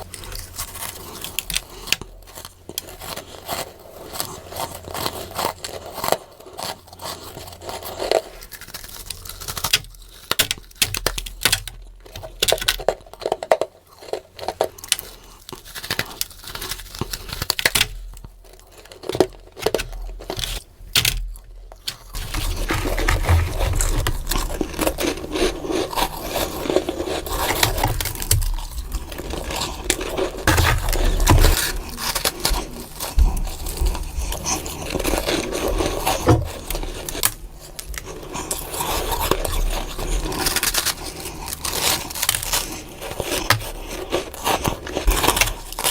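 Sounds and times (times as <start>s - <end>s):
crunching and chewing frost: 0.0s - 45.9s.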